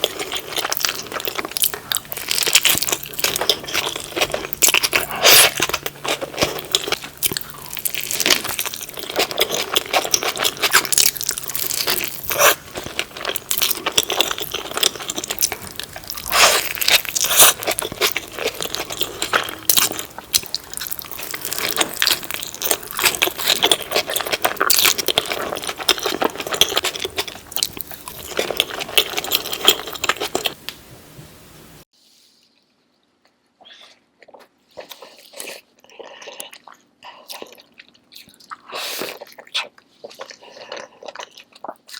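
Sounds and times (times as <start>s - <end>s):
person chewing crunchy food: 0.0s - 30.6s, 32.4s - 41.9s.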